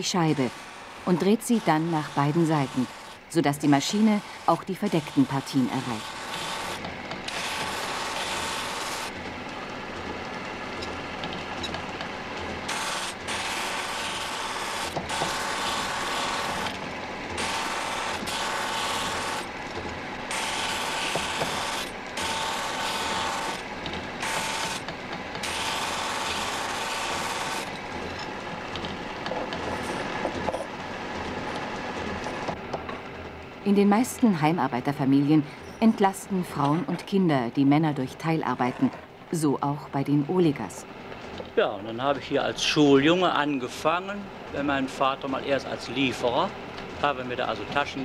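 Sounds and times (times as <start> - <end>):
metal grinding on abrasive wheel: 0.0 - 39.1, 40.4 - 48.0
wheel whining: 0.0 - 39.4, 40.2 - 48.0.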